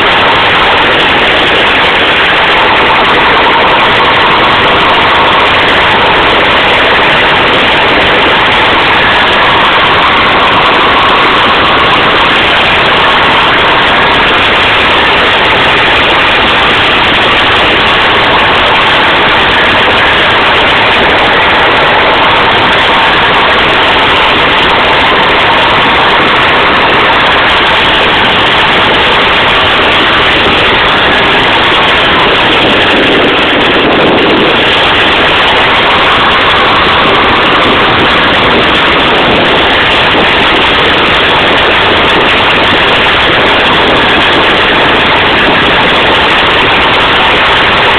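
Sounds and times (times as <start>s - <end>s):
loud diesel engine running: 0.0s - 47.9s.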